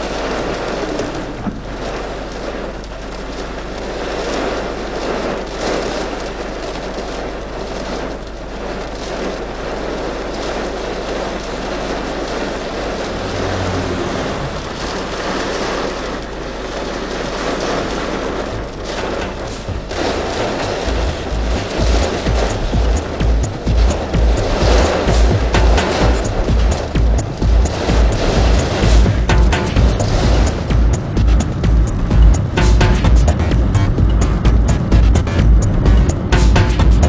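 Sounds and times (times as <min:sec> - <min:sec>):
gusting wind and rain: 0:00.0 - 0:37.0.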